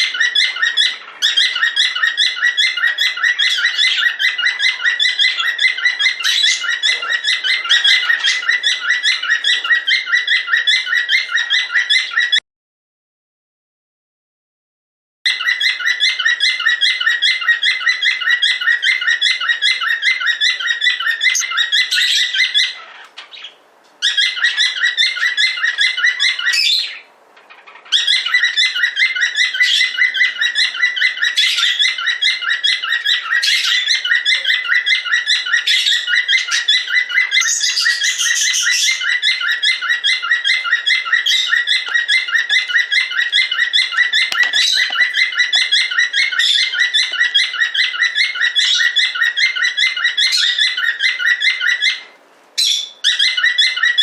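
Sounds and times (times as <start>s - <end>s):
cockatiel chirping and whistling: 0.0s - 12.4s, 15.3s - 54.0s.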